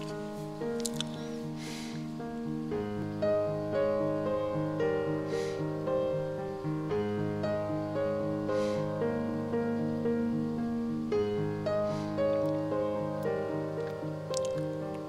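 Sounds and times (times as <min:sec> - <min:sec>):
gentle piano music: 0:00.0 - 0:15.0
soft hiss: 0:00.0 - 0:15.0.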